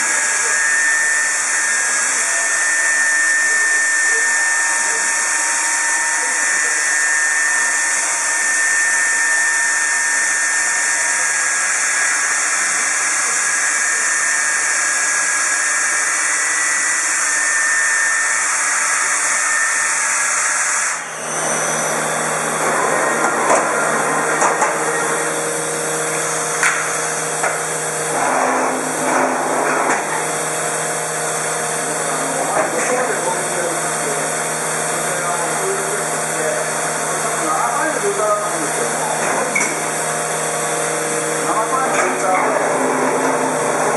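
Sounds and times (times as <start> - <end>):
router high-pitched whirring: 0.0 - 43.9
router low hum: 0.0 - 43.9.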